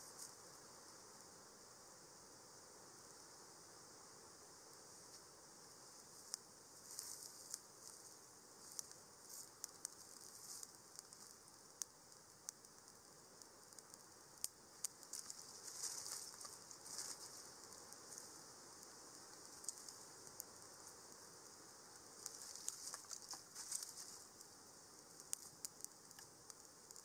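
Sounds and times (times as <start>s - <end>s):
faint crackling and ticks: 0.0s - 2.0s, 4.6s - 27.0s.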